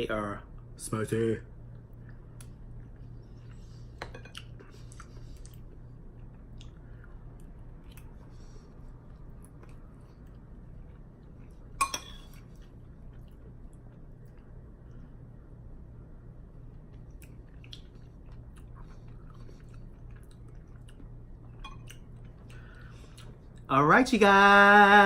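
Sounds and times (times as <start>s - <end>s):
steady low hum: 0.0s - 25.0s
quiet chewing: 1.6s - 15.2s, 16.6s - 23.7s.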